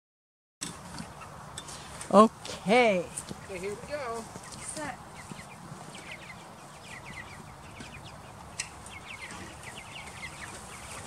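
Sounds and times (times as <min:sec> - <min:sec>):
chicks peeping: 0:00.6 - 0:11.0.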